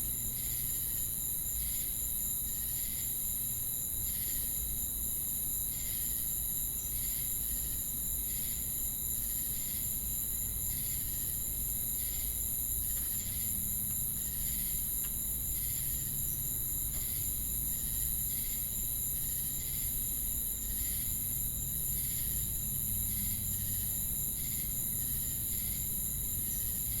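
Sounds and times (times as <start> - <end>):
high-pitched cricket trill: 0.0 - 27.0
lower cricket chirp: 0.0 - 27.0.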